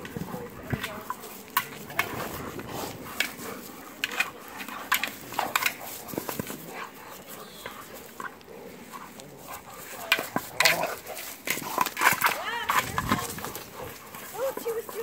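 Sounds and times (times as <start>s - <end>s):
teeth and paws clicking on ball: 0.0s - 15.0s.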